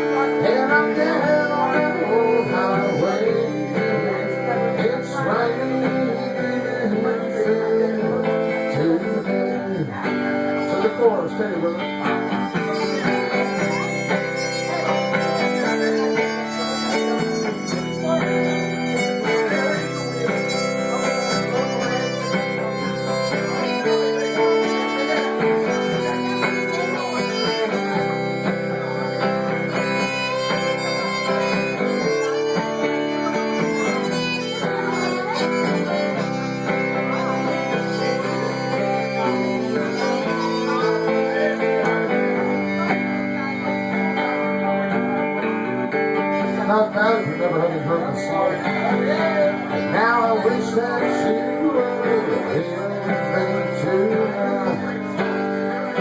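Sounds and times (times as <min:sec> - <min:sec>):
lead instrument melody: 0:00.0 - 0:56.0
strummed guitar: 0:00.0 - 0:56.0.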